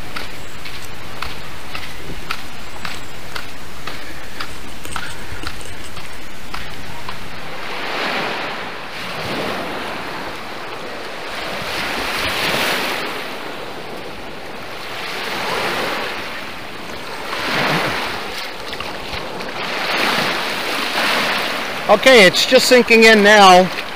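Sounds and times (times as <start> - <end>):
waves breaking on a beach: 0.0 - 23.9.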